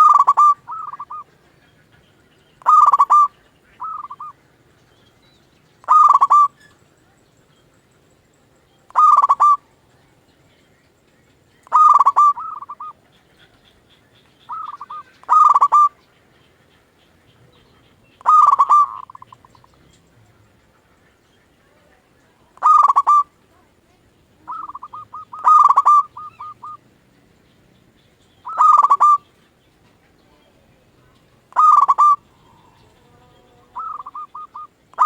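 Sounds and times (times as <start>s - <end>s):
dove cooing: 0.0s - 4.4s, 5.8s - 6.7s, 8.9s - 9.7s, 11.6s - 26.9s, 28.4s - 35.0s.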